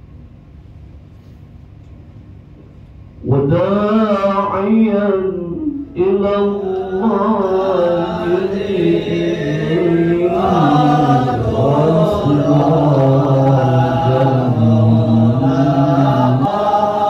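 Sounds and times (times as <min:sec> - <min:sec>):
man chanting into microphone: 0:03.2 - 0:17.0.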